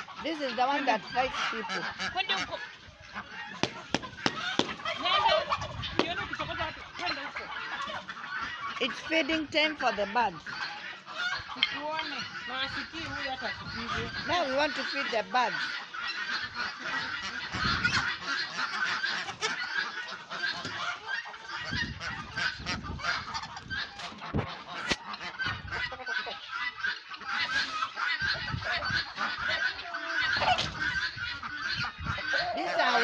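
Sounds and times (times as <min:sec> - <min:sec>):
poultry honking and cackling: 0:00.0 - 0:33.0.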